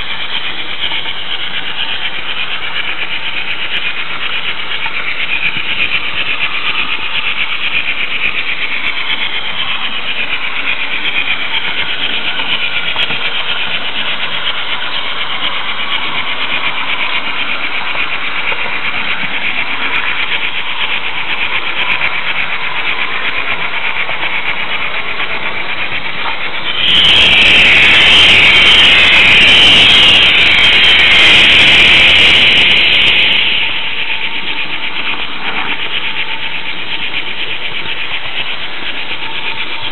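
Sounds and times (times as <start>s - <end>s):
model train wheels rattling: 0.0s - 39.9s.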